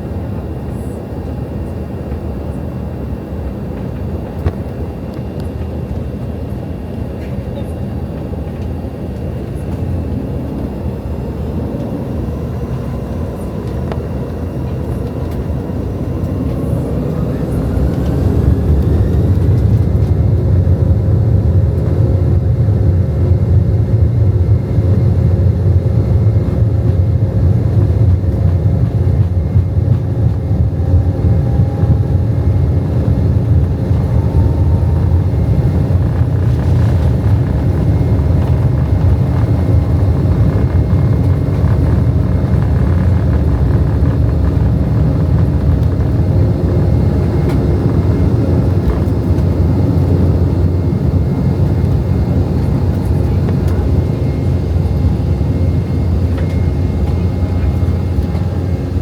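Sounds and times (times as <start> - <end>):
jet engine whine: 0.0 - 59.0
jet engines roaring: 0.0 - 59.0.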